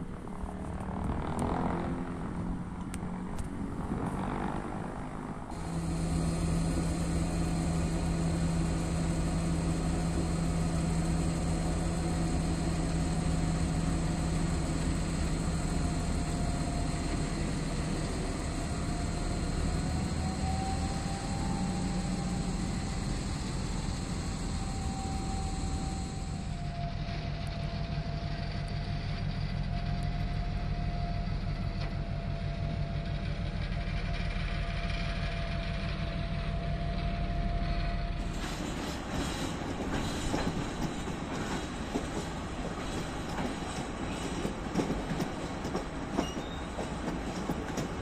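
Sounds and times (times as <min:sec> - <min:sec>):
diesel locomotive engine droning: 0:00.0 - 0:48.0.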